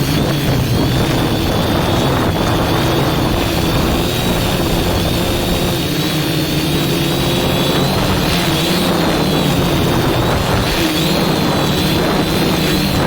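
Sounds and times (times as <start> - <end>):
drone propellers whining: 0.0 - 13.0
wind noise: 0.0 - 13.0.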